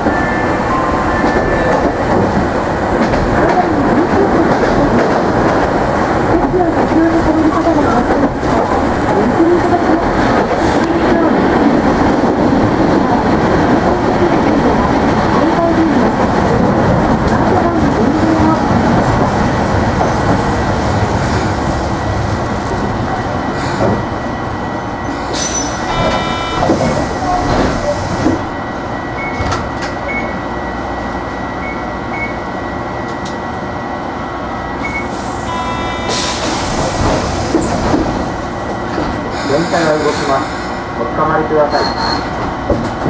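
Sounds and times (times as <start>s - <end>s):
tram wheels rumbling on rail: 0.0s - 43.0s.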